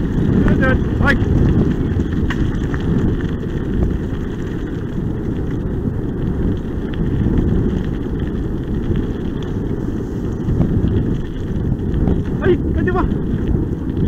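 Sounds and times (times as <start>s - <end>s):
tyres rolling on gravel: 0.0s - 14.0s
wind rumble on microphone: 0.0s - 14.0s.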